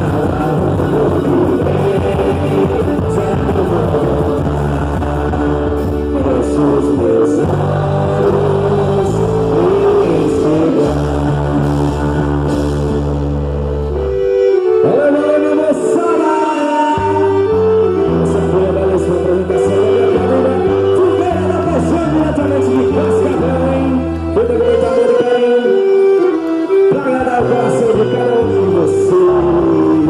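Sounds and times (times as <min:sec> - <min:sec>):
folk dance song with singing: 0:00.0 - 0:30.0
long held bass notes: 0:00.0 - 0:30.0.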